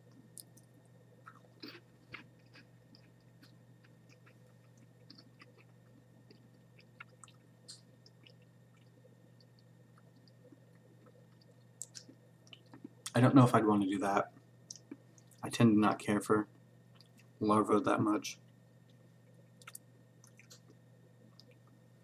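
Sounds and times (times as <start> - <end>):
crunchy chewing clicks: 0.0 - 13.2, 14.3 - 15.5, 16.9 - 17.4, 18.4 - 21.8
low steady hum: 0.0 - 22.0.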